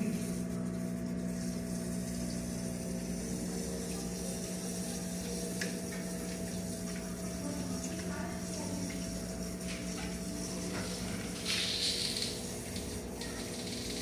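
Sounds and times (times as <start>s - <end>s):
aquarium pump humming: 0.0s - 14.0s.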